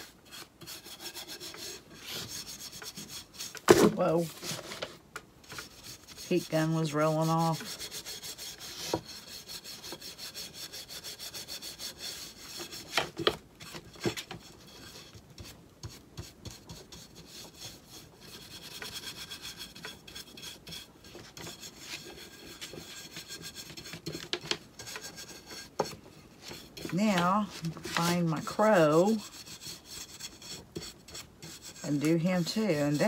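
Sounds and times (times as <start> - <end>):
paintbrush scrubbing wood: 0.0 - 4.8, 5.4 - 33.0.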